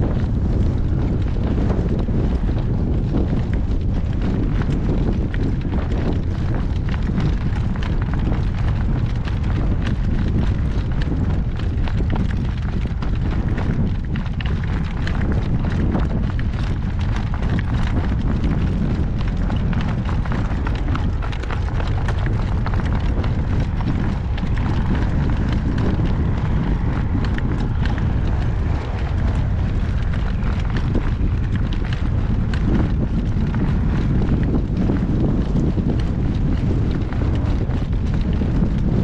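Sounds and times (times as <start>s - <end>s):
horse hoofbeats clip-clopping: 0.0s - 39.0s
wind buffeting microphone: 0.0s - 39.0s.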